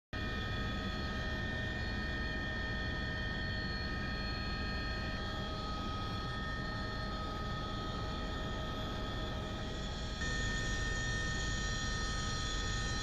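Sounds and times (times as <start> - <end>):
helicopter drone: 0.2 - 13.0
high turbine whine: 0.2 - 13.0.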